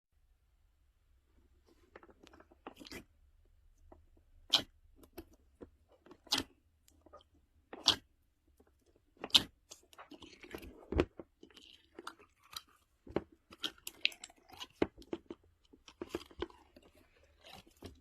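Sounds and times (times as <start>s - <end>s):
crackling chews: 1.9s - 3.1s, 3.8s - 18.0s.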